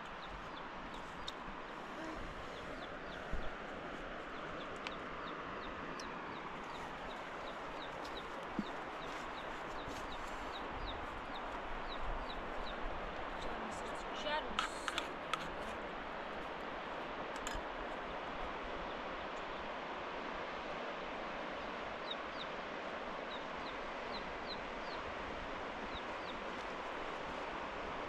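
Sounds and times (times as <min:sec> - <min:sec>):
mountain river rushing: 0:00.0 - 0:28.0.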